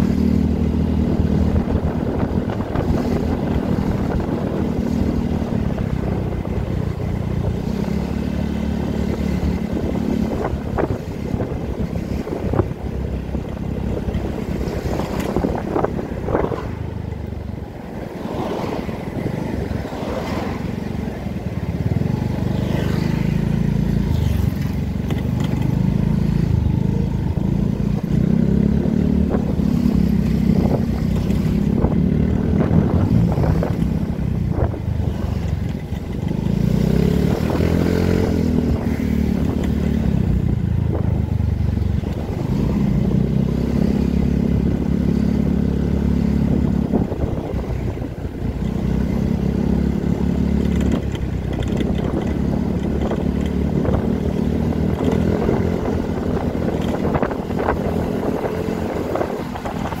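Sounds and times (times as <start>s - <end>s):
scooter engine revving: 0.0s - 60.0s
wind noise on microphone: 0.0s - 60.0s.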